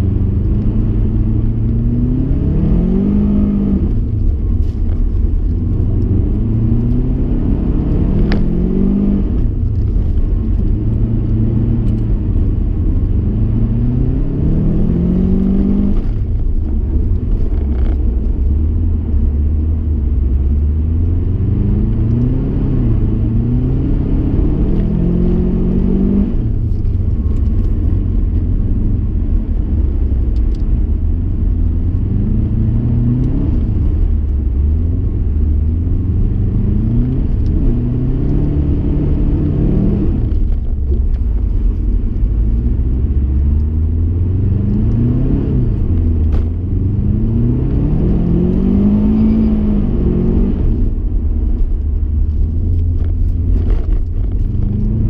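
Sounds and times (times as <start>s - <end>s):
car engine revving in cabin: 0.0s - 55.0s.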